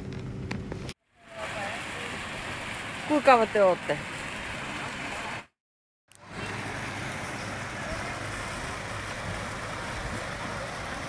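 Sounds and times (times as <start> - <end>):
water jets splashing into pool: 1.2 - 5.5, 6.1 - 11.0.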